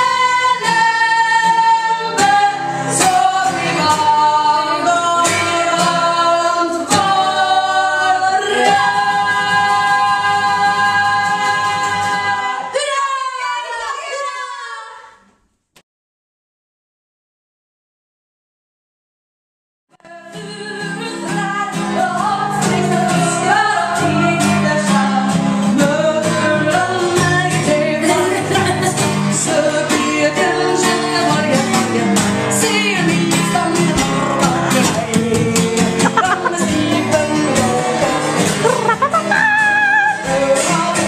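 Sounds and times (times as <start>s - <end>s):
acoustic guitar strumming: 0.0s - 12.7s, 20.1s - 41.0s
woman singing: 0.0s - 15.2s, 20.0s - 41.0s.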